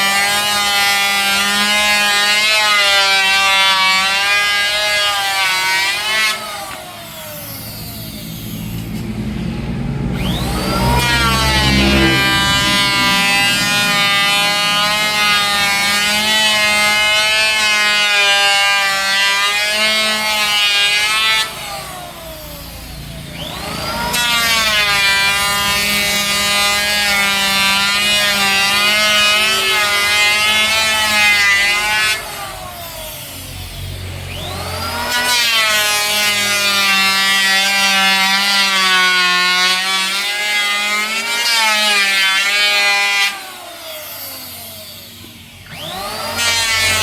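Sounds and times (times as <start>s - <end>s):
power tool motor whining: 0.0s - 47.0s.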